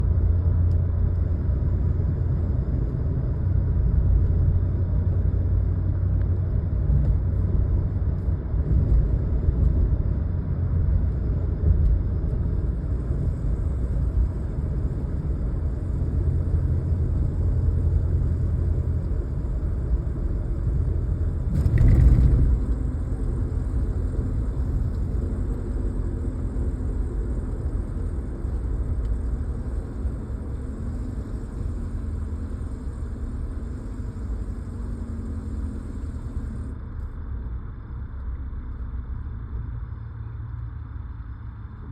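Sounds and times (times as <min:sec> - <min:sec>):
truck engine low rumble: 0:00.0 - 0:41.9.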